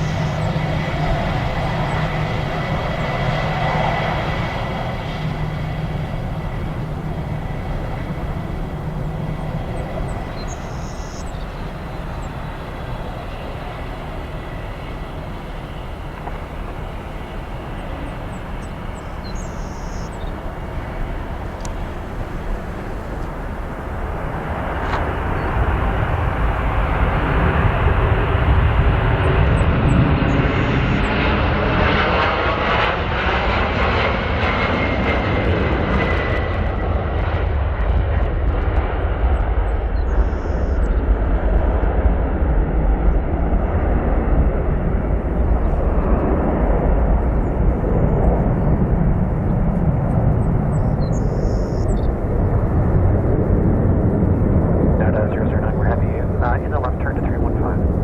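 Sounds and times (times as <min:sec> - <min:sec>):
airliner engines running: 0:00.0 - 0:58.0.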